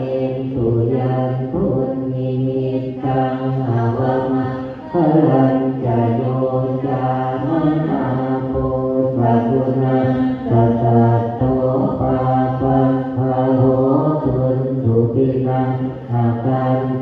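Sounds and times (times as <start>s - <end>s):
group chanting in unison: 0.0s - 17.0s.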